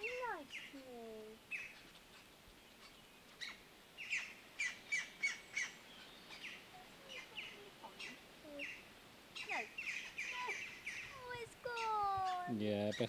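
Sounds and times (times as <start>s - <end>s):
woodpecker calls: 0.0s - 13.0s.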